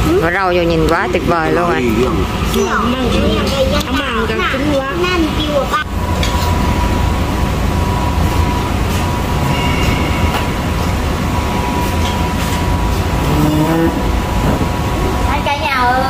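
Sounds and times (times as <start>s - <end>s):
constant high hum: 0.0s - 16.0s
loud steady rumbling: 0.0s - 16.0s.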